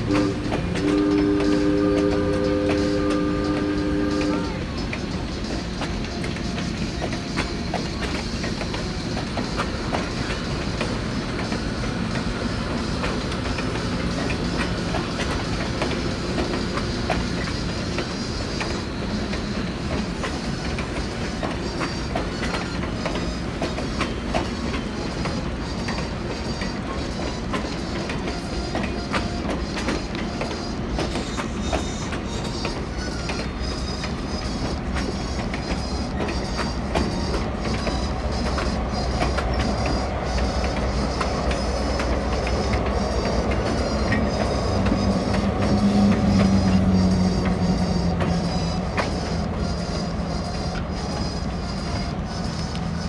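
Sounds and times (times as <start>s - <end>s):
train rumble: 0.0s - 53.0s
train wheels clicking on rails: 0.0s - 53.0s.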